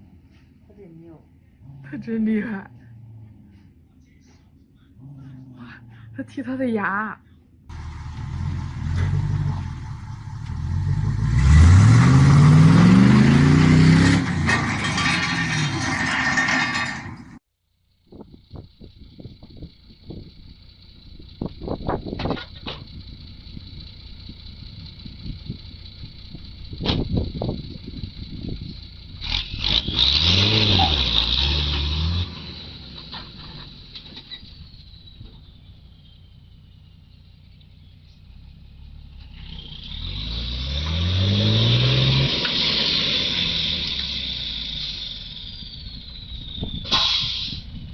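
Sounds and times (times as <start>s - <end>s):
vehicle engine revving: 7.7s - 17.4s, 19.2s - 47.9s.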